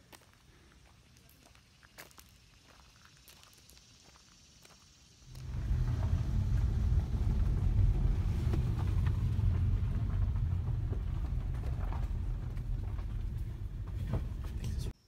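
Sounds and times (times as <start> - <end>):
car driving on gravel road: 1.0 - 15.0.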